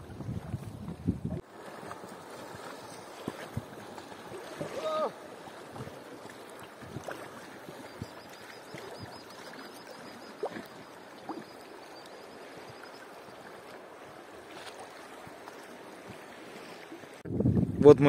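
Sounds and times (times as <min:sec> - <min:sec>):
river water lapping and gurgling: 0:00.0 - 0:17.3
short water splashes: 0:00.2 - 0:17.2.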